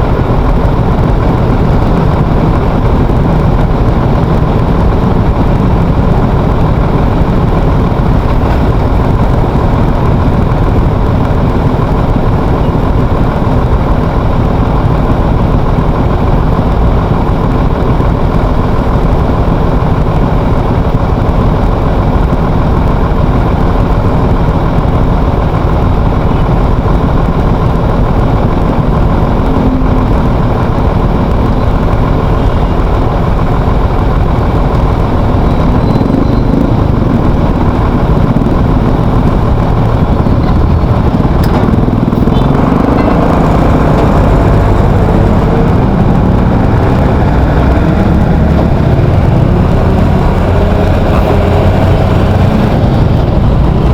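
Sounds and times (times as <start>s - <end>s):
road and wind noise: 0.0s - 53.9s
vehicle engine running: 0.0s - 53.9s.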